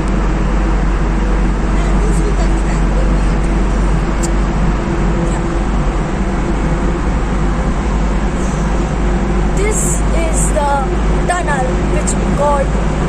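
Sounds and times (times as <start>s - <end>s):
car driving through tunnel: 0.0s - 13.0s.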